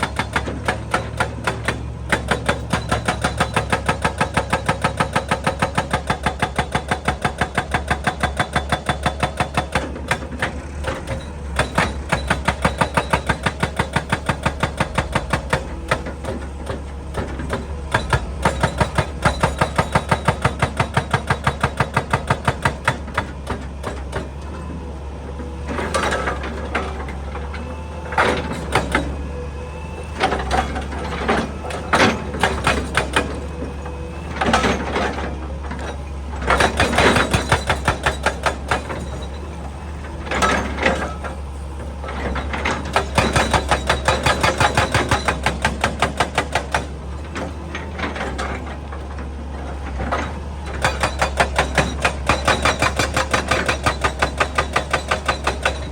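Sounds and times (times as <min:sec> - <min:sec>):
hydraulic breaker hammering rock: 0:00.0 - 0:24.5, 0:25.7 - 0:27.2, 0:28.1 - 0:29.2, 0:30.2 - 0:55.9
excavator engine drone: 0:00.0 - 0:55.9.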